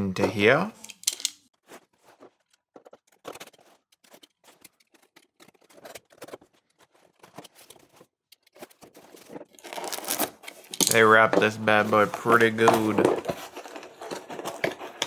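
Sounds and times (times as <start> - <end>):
cardboard box rustling: 1.6 - 10.4, 11.0 - 15.0.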